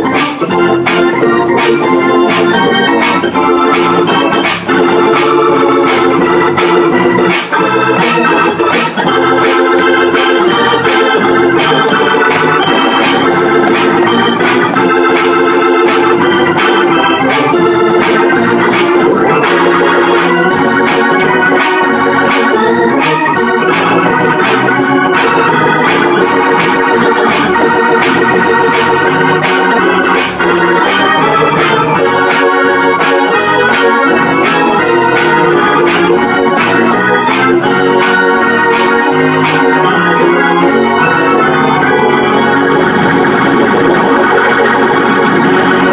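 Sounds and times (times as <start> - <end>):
organ music with steady beat: 0.0 - 45.9.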